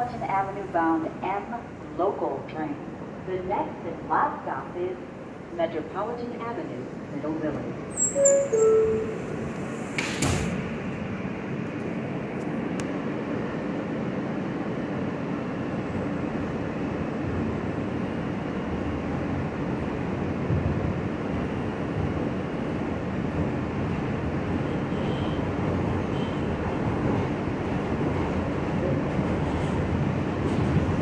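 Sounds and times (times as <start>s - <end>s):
subway car rumbling on track: 0.0s - 31.0s.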